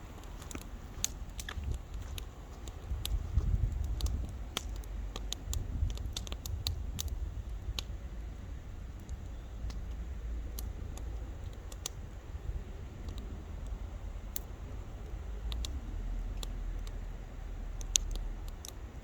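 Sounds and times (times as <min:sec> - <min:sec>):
low rumble of burning fire: 0:00.0 - 0:19.0
campfire pops and snaps: 0:00.1 - 0:08.0, 0:08.9 - 0:12.2, 0:12.9 - 0:19.0.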